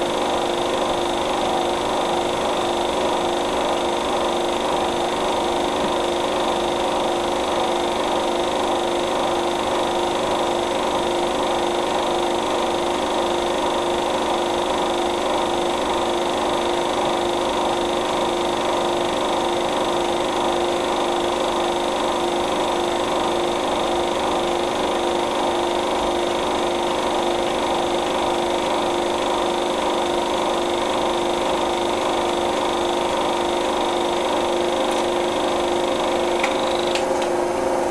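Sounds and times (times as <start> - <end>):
steady mechanical hum: 0.0 - 37.9.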